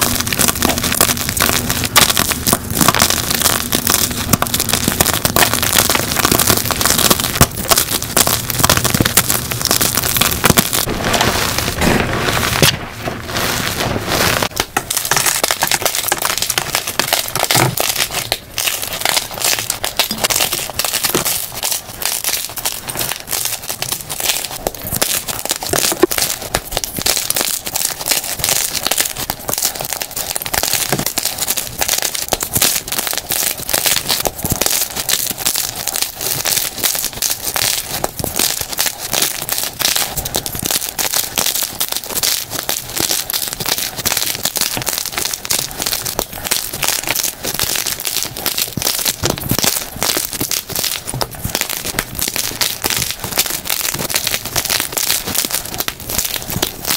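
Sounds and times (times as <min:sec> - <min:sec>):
chalk crushed by hand: 0:00.0 - 0:56.9.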